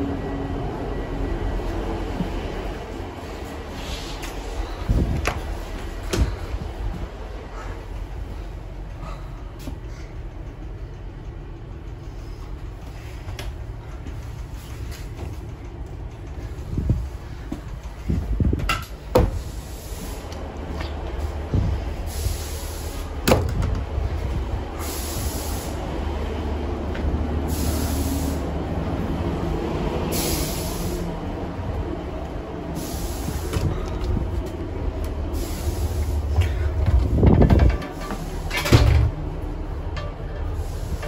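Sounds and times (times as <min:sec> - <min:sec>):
diesel engine rumble: 0:00.0 - 0:41.0.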